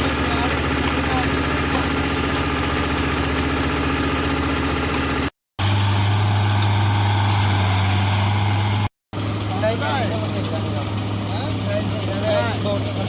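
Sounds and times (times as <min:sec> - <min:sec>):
harvester engine running: 0:00.0 - 0:13.0.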